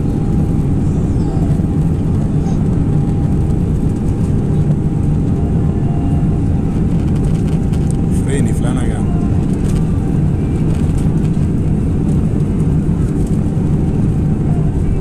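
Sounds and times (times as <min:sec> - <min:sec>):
airplane cabin engine rumble: 0:00.0 - 0:15.0
faint steady whine: 0:00.0 - 0:15.0.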